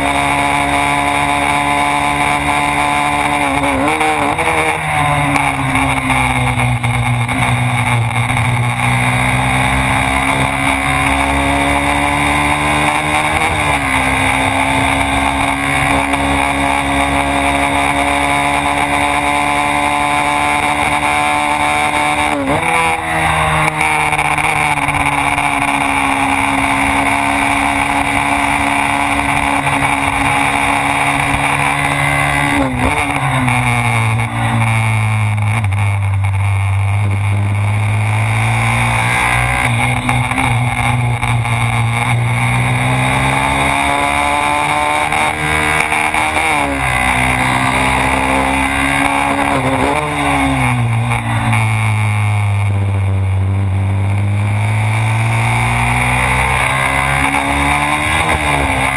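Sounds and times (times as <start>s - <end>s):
motorcycle engine at high revs: 0.0s - 58.9s.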